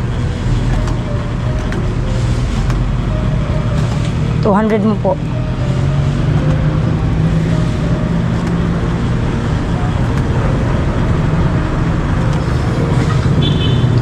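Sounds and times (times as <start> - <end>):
engine idling: 0.0 - 14.0
road traffic noise: 0.0 - 14.0.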